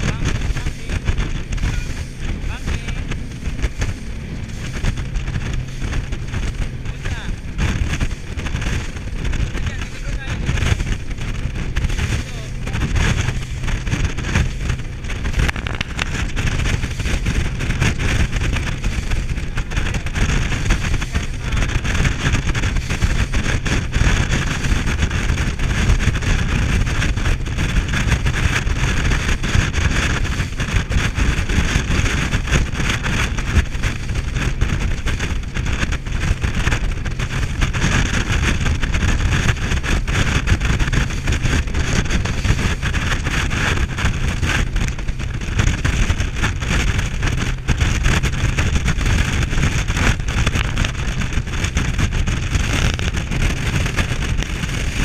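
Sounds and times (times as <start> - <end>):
boat running fast on water: 0.0 - 55.0
water streaming past hull: 0.0 - 55.0
wind buffeting microphone: 0.0 - 55.0.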